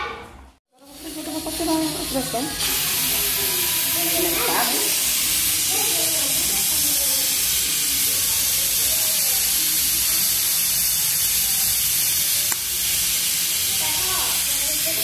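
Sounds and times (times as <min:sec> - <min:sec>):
pressure cooker steam hissing: 0:00.8 - 0:15.0.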